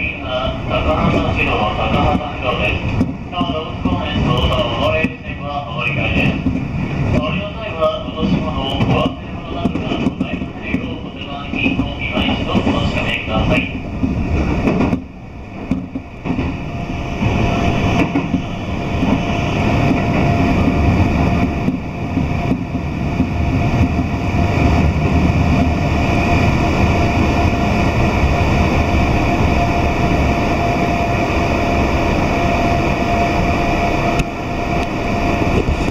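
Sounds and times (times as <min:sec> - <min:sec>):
train wheels rumbling: 0:00.0 - 0:35.9.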